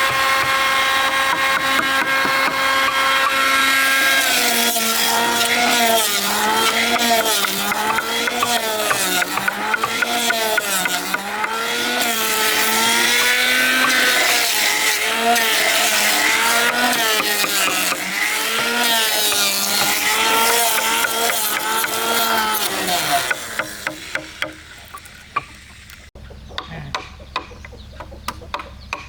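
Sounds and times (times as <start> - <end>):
woodworking machine motor running: 0.0 - 24.6
crackle of wood cutting: 0.1 - 26.1.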